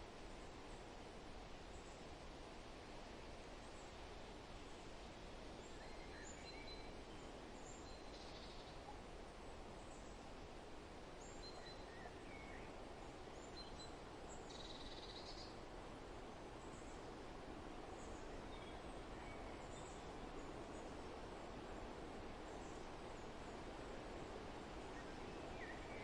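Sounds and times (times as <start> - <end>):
wind rustling foliage: 0.0 - 26.0.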